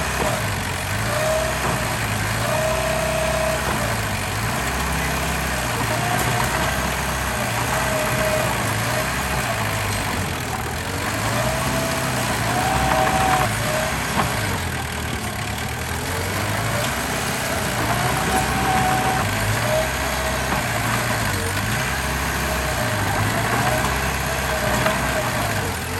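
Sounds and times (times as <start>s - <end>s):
heavy machinery diesel engine: 0.0s - 25.9s.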